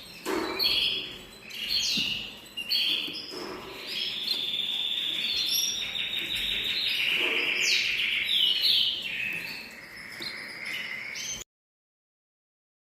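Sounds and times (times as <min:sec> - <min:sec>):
songbirds singing trills: 0:00.0 - 0:11.4.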